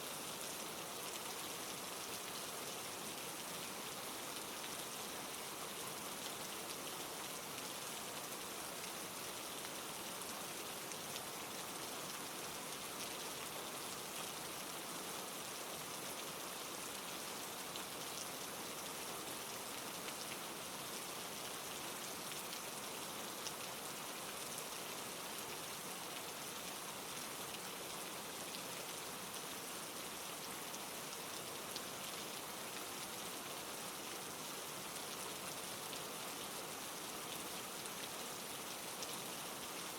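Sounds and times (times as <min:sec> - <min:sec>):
rain falling: 0:00.1 - 0:39.9.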